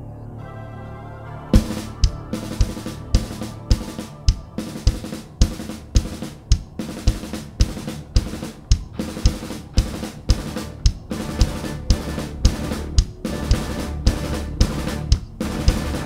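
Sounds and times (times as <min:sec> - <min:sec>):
cymbal wash: 0:01.2 - 0:16.0
rock drum beat: 0:01.6 - 0:16.0.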